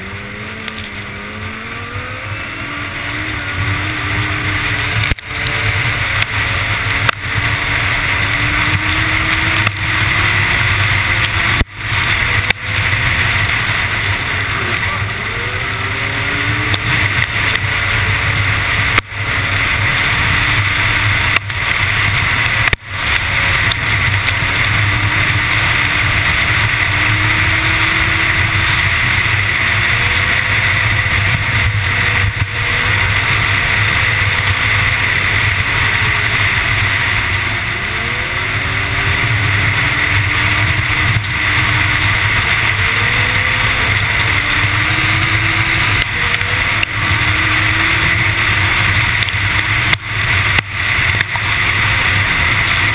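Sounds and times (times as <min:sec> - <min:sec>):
snowmobile engine drone: 0:00.0 - 0:52.9
wind rush: 0:00.0 - 0:52.9.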